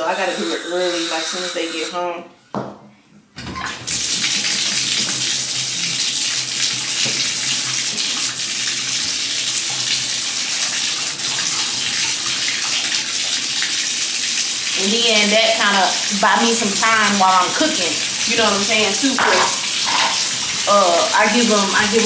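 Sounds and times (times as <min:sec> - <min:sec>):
tap water pouring into tub: 0:03.4 - 0:22.0.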